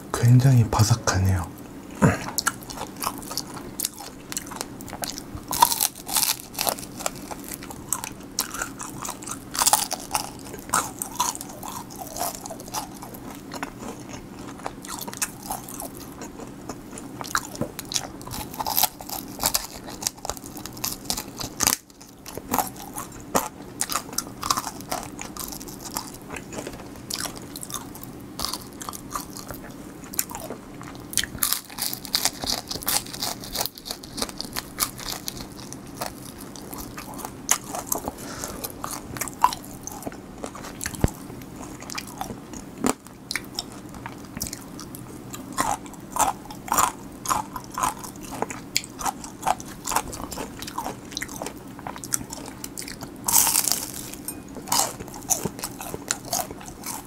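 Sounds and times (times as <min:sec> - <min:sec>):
crunchy fried chicken chewing: 0:02.0 - 0:57.0.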